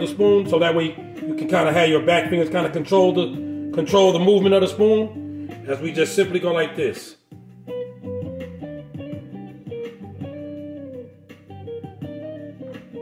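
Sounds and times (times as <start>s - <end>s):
plucked guitar with bending notes: 0.0s - 6.7s, 7.4s - 13.0s.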